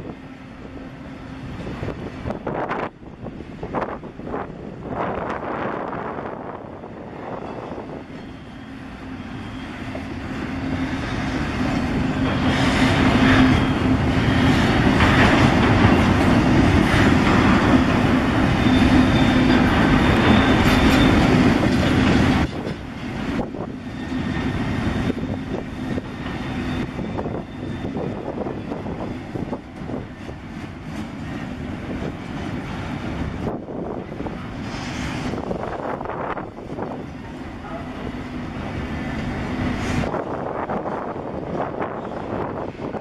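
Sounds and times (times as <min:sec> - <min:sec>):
freight train wheels rolling on rails: 0:00.0 - 0:43.0.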